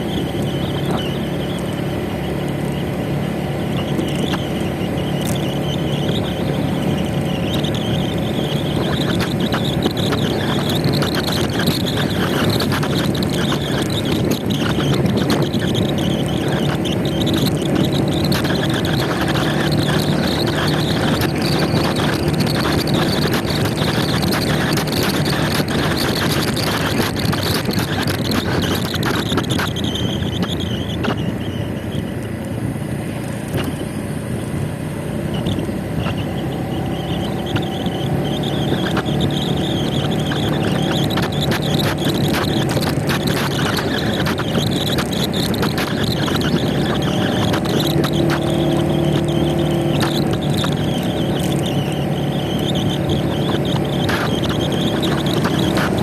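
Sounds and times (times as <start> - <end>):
motor scooter engine hum: 0.0 - 56.0
road and wind noise: 0.0 - 56.0.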